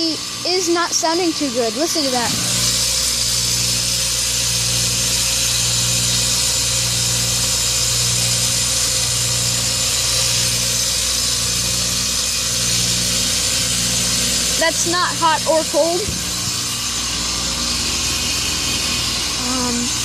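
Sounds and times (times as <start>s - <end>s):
air conditioner buzzing hum: 0.0s - 20.0s.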